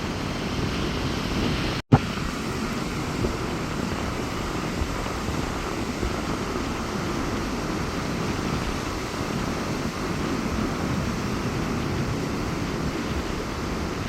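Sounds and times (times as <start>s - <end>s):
sea waves washing onto beach: 0.0s - 14.0s
strong wind: 0.0s - 14.0s.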